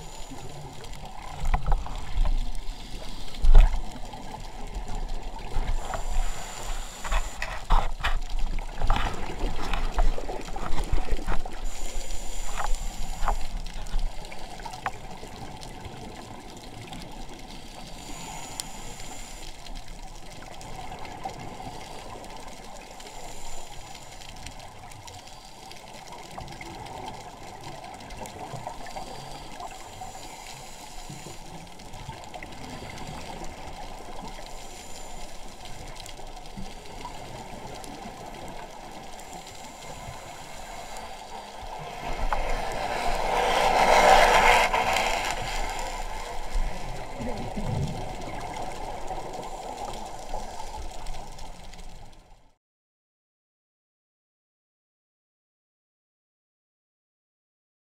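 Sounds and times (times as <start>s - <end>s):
steady hiss: 0.0s - 15.2s, 17.0s - 27.6s, 28.3s - 52.1s
muffled underwater rush: 0.0s - 52.2s.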